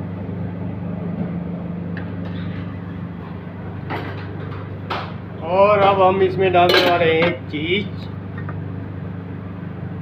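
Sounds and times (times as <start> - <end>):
kitchen machinery hum: 0.0 - 10.0.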